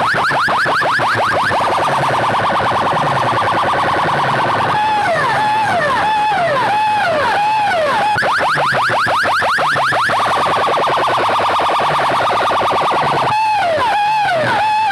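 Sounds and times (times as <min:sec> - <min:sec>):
electronic siren wailing: 0:00.0 - 0:14.9.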